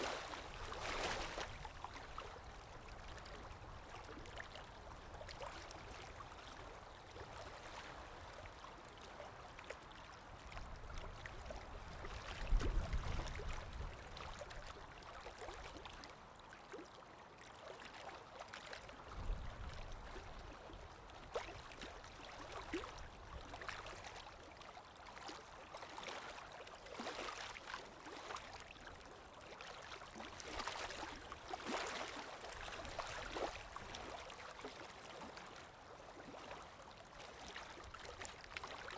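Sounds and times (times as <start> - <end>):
stream trickling and gurgling: 0.0 - 38.9.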